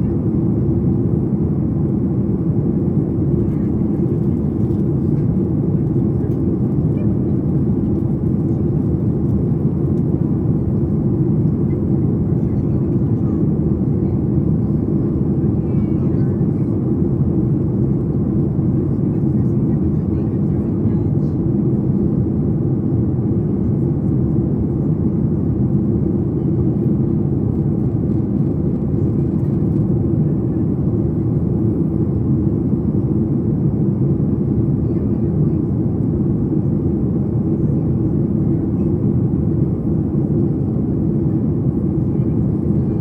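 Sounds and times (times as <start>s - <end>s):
airplane cabin drone: 0.0s - 43.0s.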